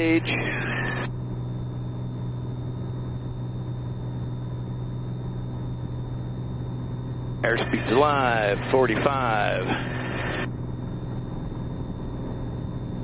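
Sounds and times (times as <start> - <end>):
aircraft engine drone: 0.0 - 13.0
thin high whine: 0.0 - 13.0.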